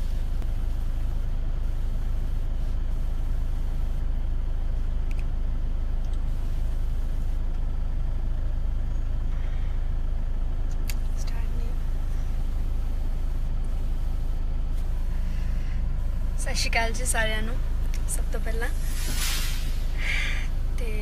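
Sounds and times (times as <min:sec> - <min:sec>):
steady low rumble with hiss: 0:00.0 - 0:21.0.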